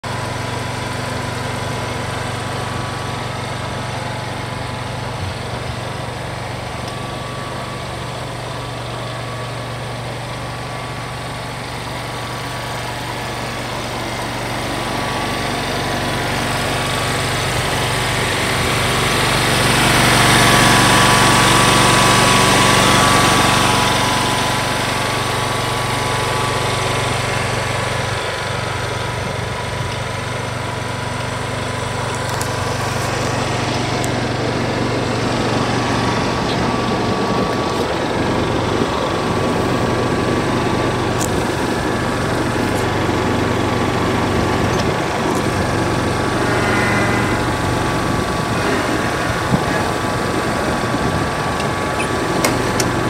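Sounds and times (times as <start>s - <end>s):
mower engine idling: 0.0s - 53.0s.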